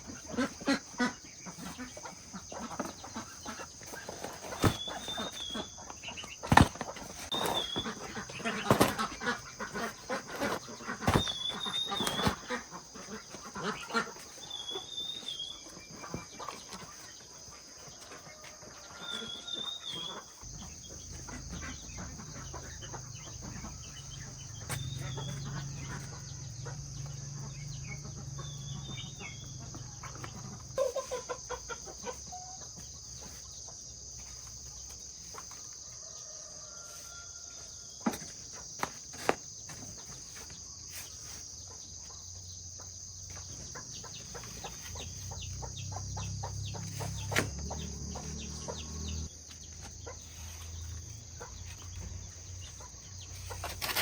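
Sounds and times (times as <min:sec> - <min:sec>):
chickens calling: 0:00.0 - 0:54.0
insect drone: 0:00.0 - 0:54.0.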